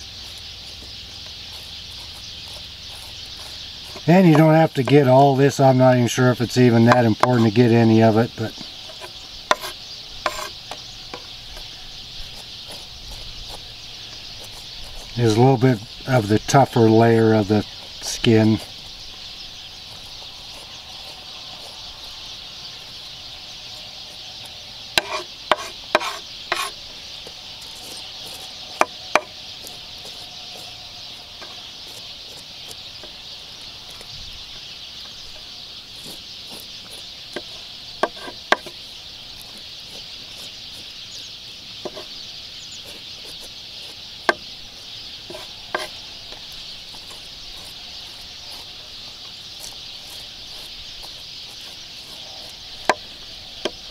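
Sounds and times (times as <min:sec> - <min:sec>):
steady high hiss: 0:00.0 - 0:53.9.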